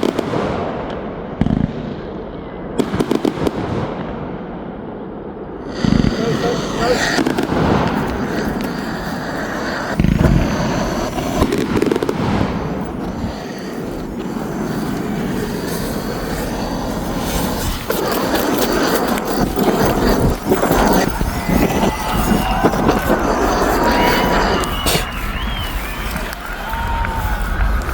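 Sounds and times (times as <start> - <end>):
fireworks going off: 0.0 - 27.9
sharp firework bangs: 0.0 - 27.9.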